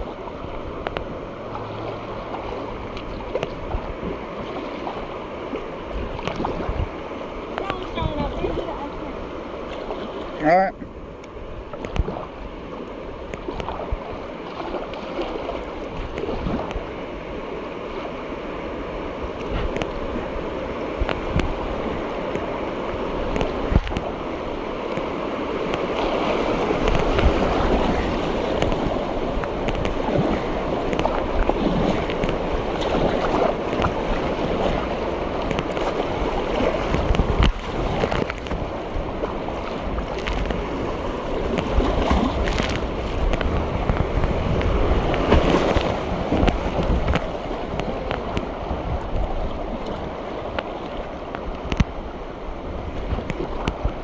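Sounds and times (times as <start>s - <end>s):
paddle splashes: 0.0s - 54.0s
whitewater rushing: 0.0s - 54.0s.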